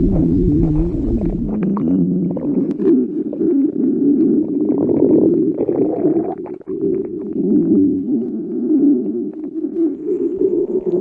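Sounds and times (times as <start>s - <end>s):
stomach rumbling: 0.0s - 11.0s.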